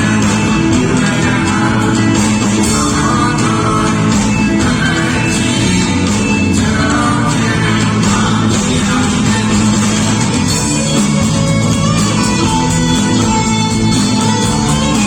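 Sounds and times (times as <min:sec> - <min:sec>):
electric guitar: 0:00.0 - 0:15.0
person singing: 0:00.0 - 0:15.0
rock band playing live: 0:00.0 - 0:15.0.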